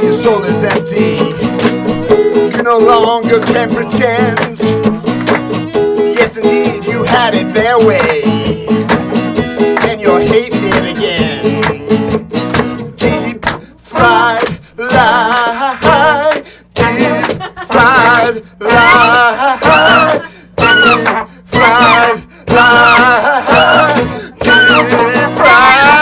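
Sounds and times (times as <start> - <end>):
man singing loudly: 0.0 - 1.6, 2.5 - 4.8, 6.1 - 8.8, 9.8 - 12.1, 13.0 - 26.0
acoustic guitar strummed hard: 0.0 - 26.0.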